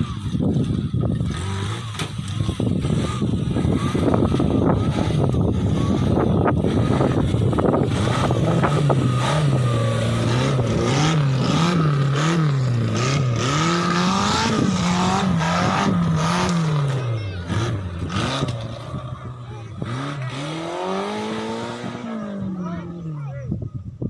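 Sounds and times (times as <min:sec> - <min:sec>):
vehicle engine revving: 0:00.0 - 0:23.2.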